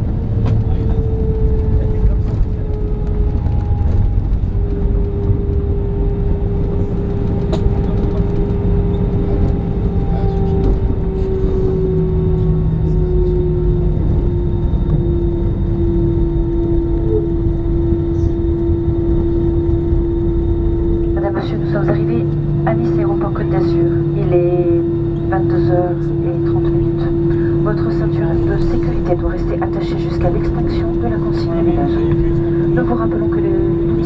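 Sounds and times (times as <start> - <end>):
jet engines idling whine: 0.0 - 34.0
low cabin rumble: 0.0 - 34.0.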